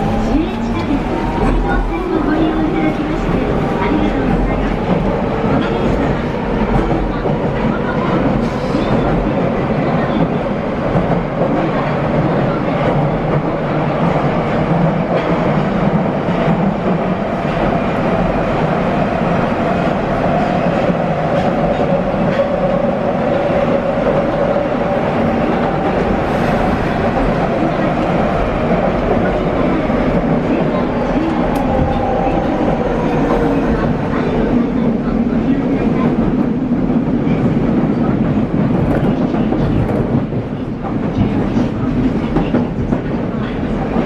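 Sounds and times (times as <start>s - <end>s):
train running rumble and whine: 0.0s - 44.0s.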